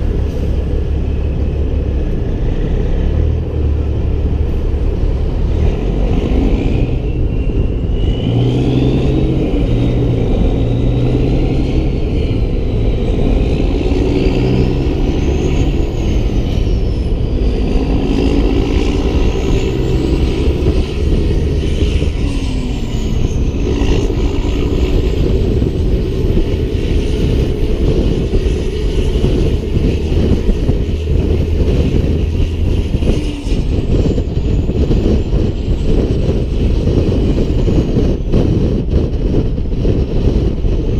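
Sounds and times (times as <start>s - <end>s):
diesel truck engine running: 0.0s - 40.9s
road noise: 0.0s - 40.9s.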